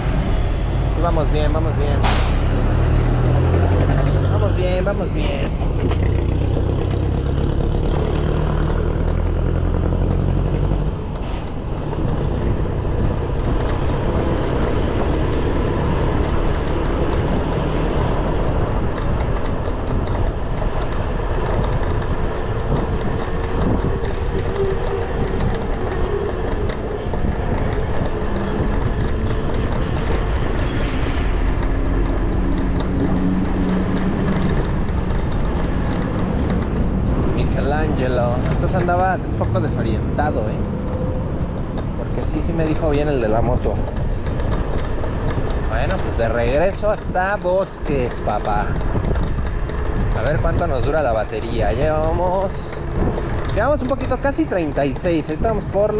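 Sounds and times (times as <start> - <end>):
city traffic noise: 0.0 - 55.9
heavy low rumble: 0.0 - 55.9
passing vehicles humming: 0.0 - 55.9.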